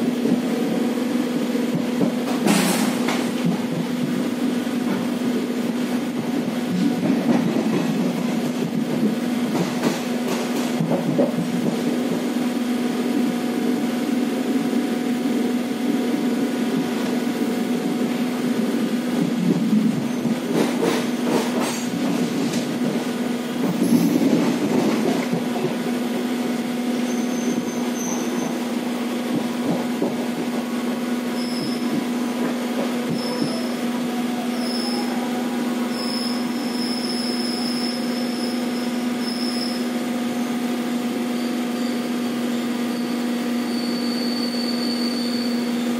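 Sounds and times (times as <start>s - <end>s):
train rumbling: 0.0s - 45.9s
wheels on rail: 0.0s - 45.9s.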